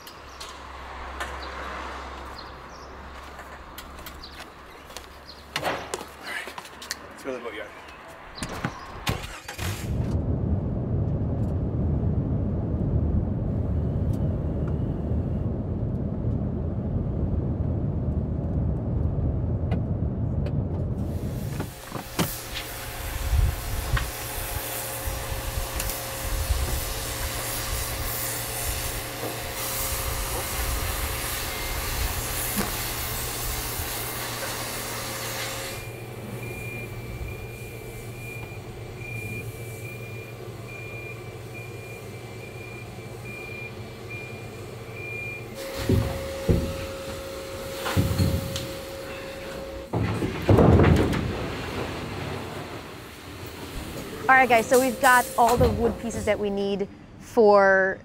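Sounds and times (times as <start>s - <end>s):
car engine and road rumble: 0.0s - 57.5s
hissing road and wind noise: 0.0s - 57.6s.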